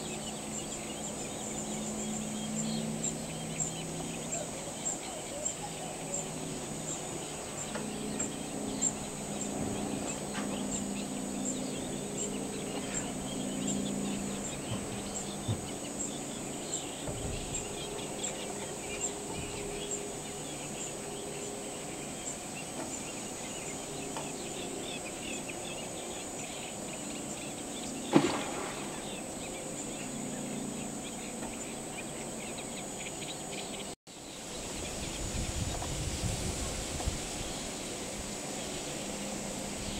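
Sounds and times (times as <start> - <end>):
high-pitched hum: 0.0 - 39.9
low hum: 0.0 - 39.9.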